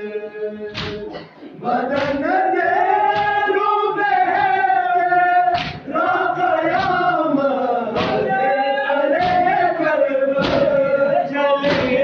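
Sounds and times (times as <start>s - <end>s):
men singing a lament: 0.0s - 12.0s.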